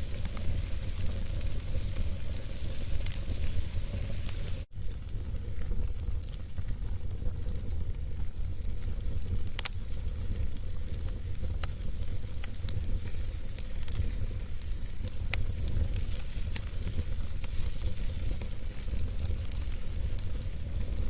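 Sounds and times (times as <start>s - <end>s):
fire crackles and pops: 0.0s - 21.0s
wood fire rumble and hiss: 0.0s - 21.0s.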